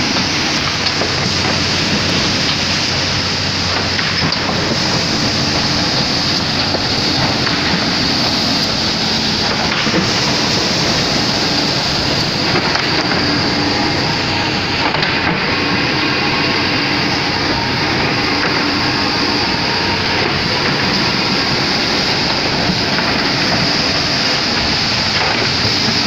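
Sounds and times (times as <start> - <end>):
belt sanding machine running: 0.0 - 26.0.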